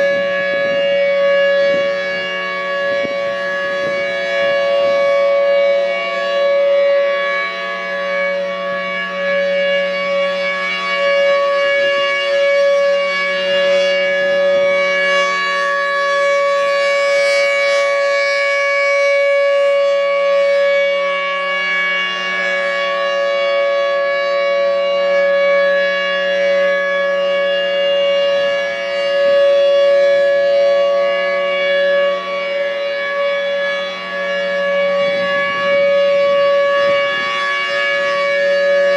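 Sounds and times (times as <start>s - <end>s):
steady warning siren: 0.0s - 38.9s.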